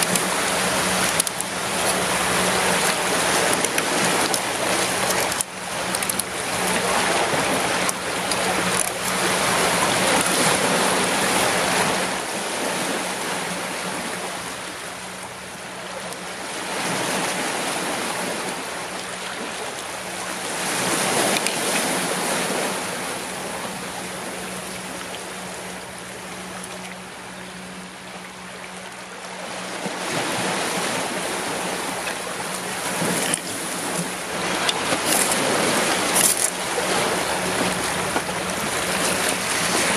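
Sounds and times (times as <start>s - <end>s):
surf washing against rocks: 0.0s - 39.9s.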